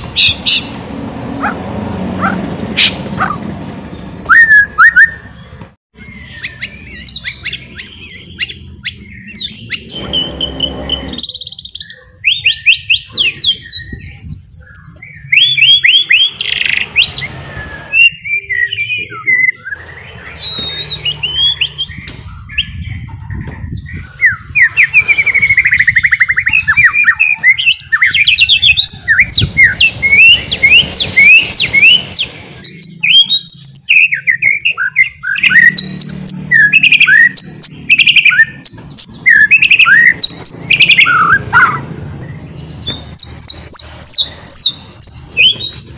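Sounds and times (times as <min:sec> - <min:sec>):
bird singing whistled notes: 0:03.9 - 0:45.9.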